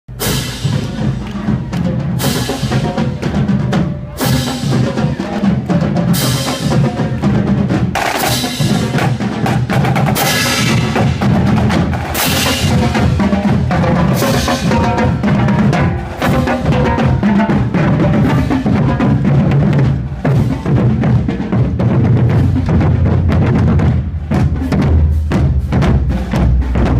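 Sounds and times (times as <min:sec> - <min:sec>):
marching drumline playing: 0:00.1 - 0:26.9.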